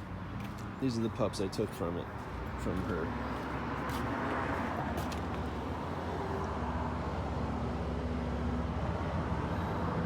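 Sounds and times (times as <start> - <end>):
outdoor background rumble: 0.0 - 10.0.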